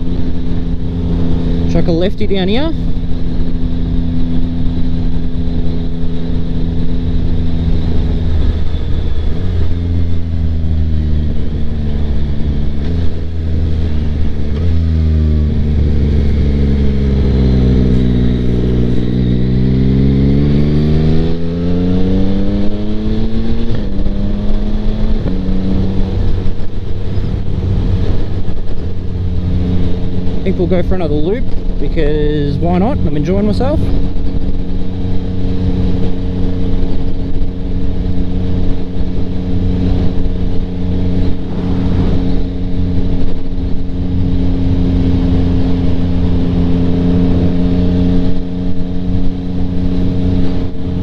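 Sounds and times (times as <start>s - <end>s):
motorcycle engine revving: 0.0s - 51.0s
wind rush: 0.0s - 51.0s.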